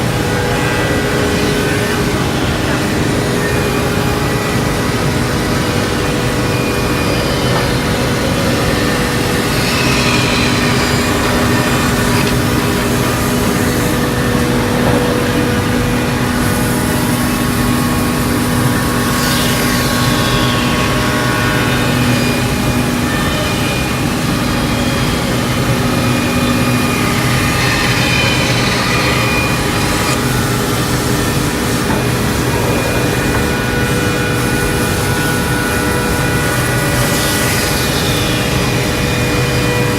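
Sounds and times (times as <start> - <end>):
scroll saw cutting wood: 0.1 - 39.9.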